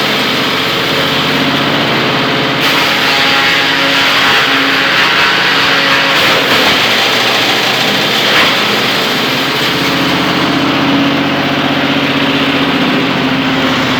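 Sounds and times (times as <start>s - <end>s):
wood chipper engine running: 0.0s - 13.9s.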